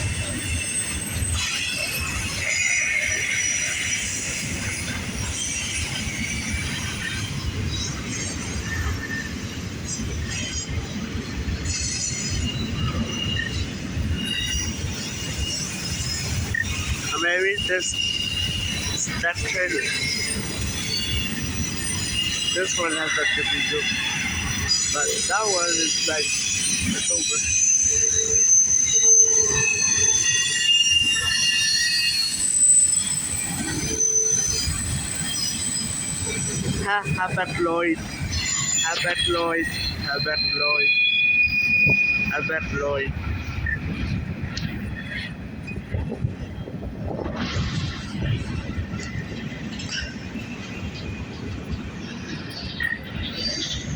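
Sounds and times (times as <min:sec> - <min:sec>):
train wheels rumbling on rail: 0:00.0 - 0:53.9
wheel squeals: 0:00.0 - 0:53.9.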